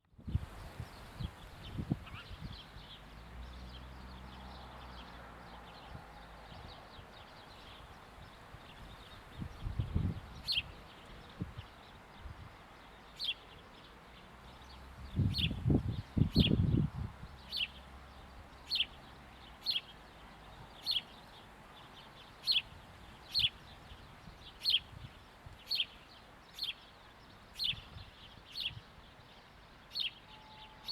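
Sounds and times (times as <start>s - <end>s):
sparrow chirping: 0.8s - 3.1s, 5.7s - 30.9s.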